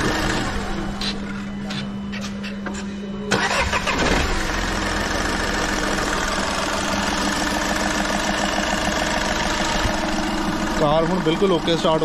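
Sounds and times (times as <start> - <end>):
diesel engine idling: 0.0 - 1.8, 3.3 - 12.0.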